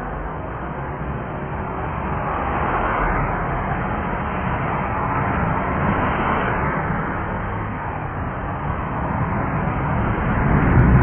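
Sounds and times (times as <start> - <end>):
jet airliner noise: 0.0 - 11.0.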